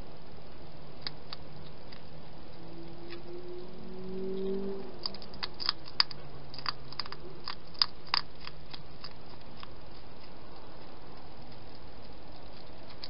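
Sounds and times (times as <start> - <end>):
hedgehog crunching food: 0.8 - 3.2, 4.9 - 13.0.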